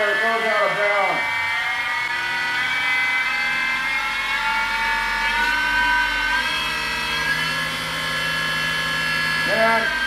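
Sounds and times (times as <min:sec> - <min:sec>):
milling machine motor whining: 0:00.0 - 0:10.0.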